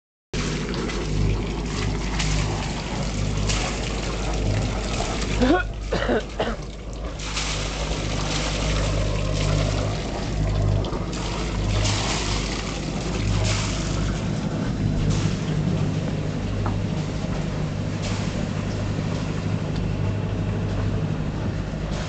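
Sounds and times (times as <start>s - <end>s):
low engine-like hum: 0.4s - 22.0s.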